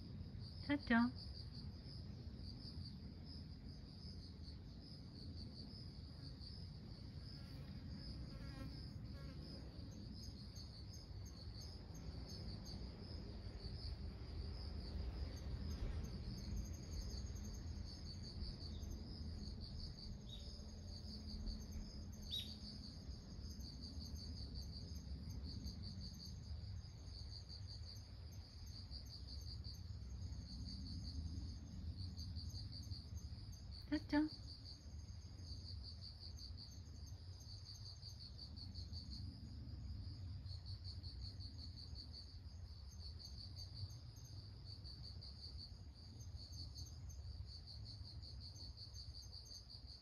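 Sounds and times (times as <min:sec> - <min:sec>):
insects chirring: 0:00.2 - 0:50.0.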